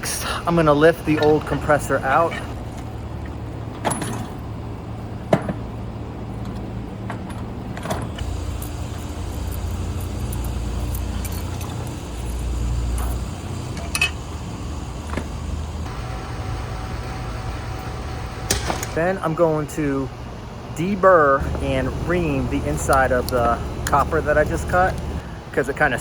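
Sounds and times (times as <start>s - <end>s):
steady low rumble: 4.4s - 26.0s.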